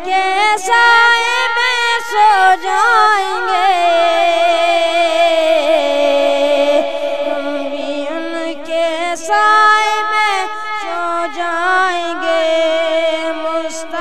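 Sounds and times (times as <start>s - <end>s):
boy singing into microphone: 0.0s - 14.0s.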